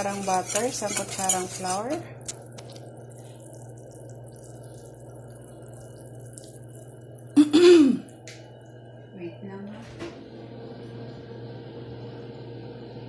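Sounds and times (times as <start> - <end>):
kitchen background hum: 0.0 - 13.0.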